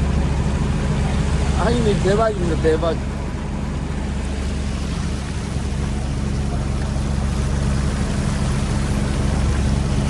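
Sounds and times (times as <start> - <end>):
boat engine humming: 0.0 - 10.0
deck machinery: 0.0 - 10.0.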